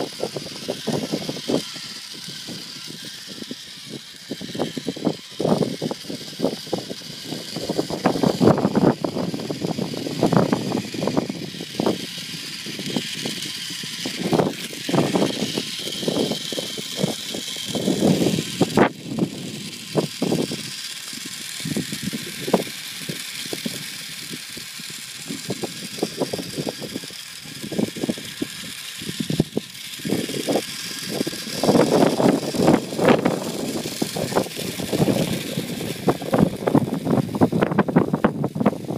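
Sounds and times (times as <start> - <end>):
toy truck electric motor whining: 0.0 - 38.9.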